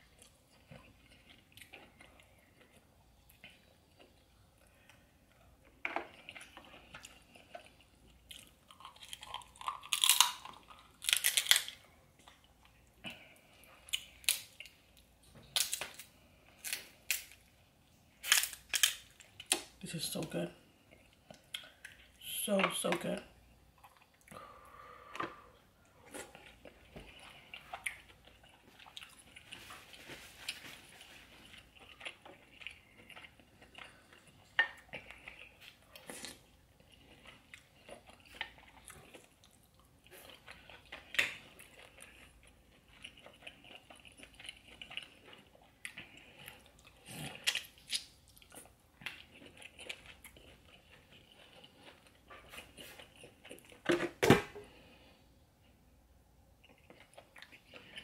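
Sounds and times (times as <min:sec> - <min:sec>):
chewing and wet smacking: 0:00.0 - 0:17.6, 0:20.8 - 0:24.5, 0:25.2 - 0:53.9, 0:56.6 - 0:58.0.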